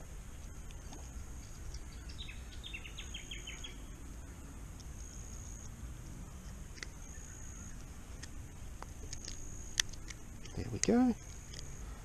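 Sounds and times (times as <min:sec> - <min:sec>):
bird chirping: 0:00.0 - 0:12.0
high-pitched insect trill: 0:00.0 - 0:12.0
low background hum: 0:00.0 - 0:12.0.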